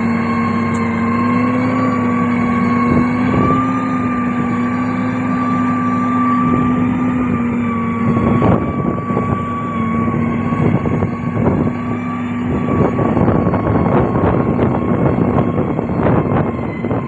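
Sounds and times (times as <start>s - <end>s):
heavy machine engine droning: 0.0s - 17.0s
steady machine whine: 0.0s - 17.0s.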